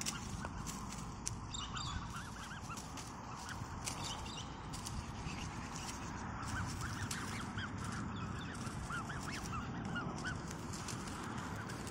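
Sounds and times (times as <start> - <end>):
cygnets peeping: 0.0 - 11.9.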